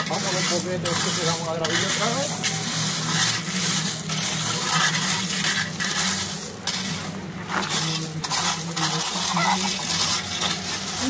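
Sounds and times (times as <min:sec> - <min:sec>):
rake dragged through gravel: 0:00.0 - 0:11.0.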